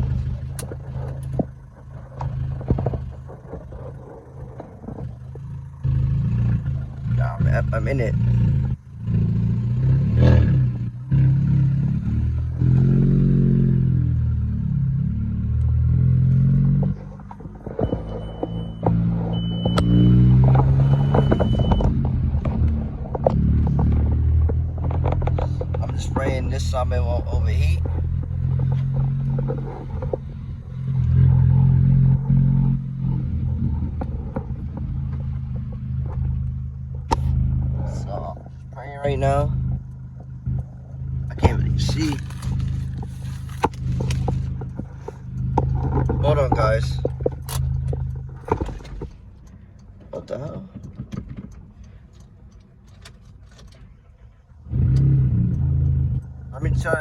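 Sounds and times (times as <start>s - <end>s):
car engine with loud exhaust revving: 0.0s - 57.0s.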